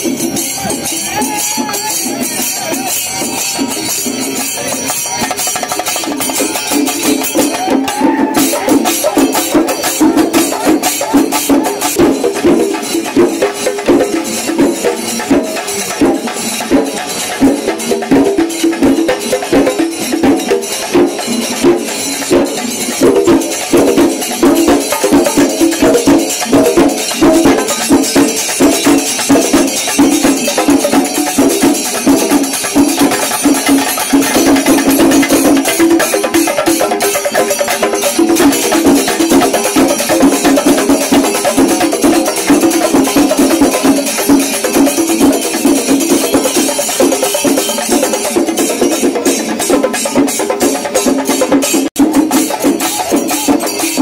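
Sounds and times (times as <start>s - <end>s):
drums beaten with sticks: 0.0s - 54.0s
metallic jingle: 0.0s - 54.0s.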